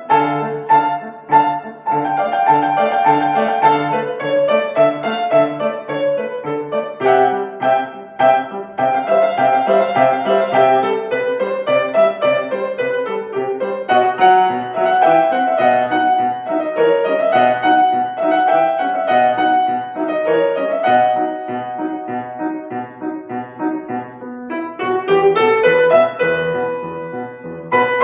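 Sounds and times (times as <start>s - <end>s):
classical piano piece: 0.0s - 28.0s.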